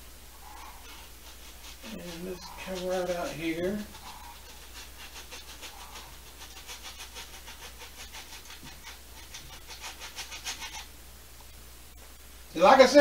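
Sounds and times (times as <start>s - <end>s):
paintbrush scratching on canvas: 0.4s - 10.9s.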